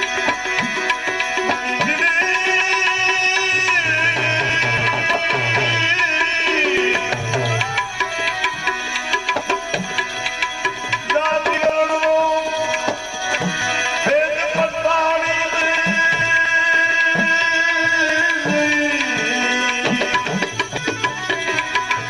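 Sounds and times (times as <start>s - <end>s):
tabla playing: 0.0s - 22.0s.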